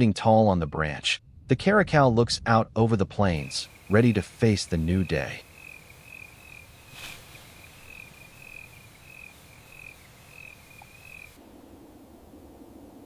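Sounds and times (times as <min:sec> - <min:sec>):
faint low hiss: 0:00.0 - 0:13.0.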